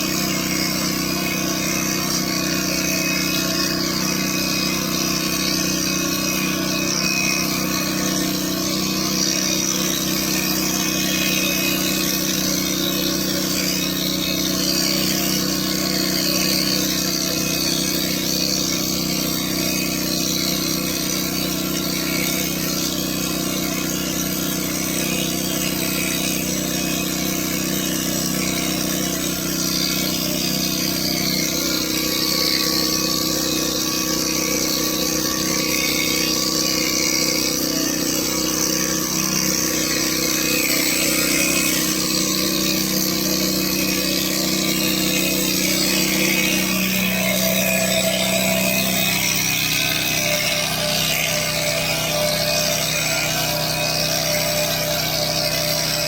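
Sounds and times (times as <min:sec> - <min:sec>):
electric hair clipper humming: 0:00.0 - 0:56.0.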